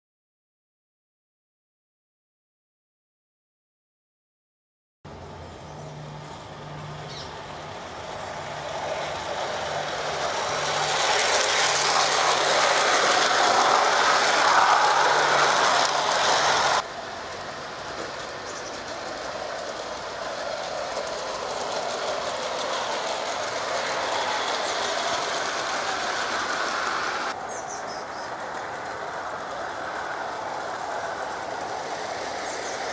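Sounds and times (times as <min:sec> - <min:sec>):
model train wheels on rails: 0:05.1 - 0:32.9.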